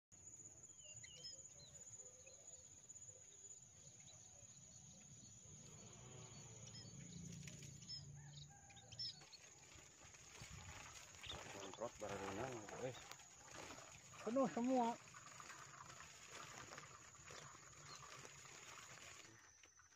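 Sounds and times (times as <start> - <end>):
small birds chirping: 0.4 - 19.4.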